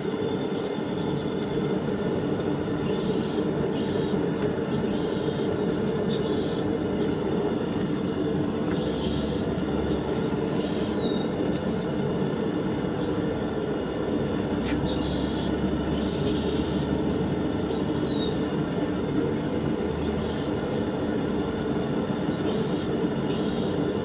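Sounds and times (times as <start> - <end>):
forge burners roaring: 0.0 - 24.0.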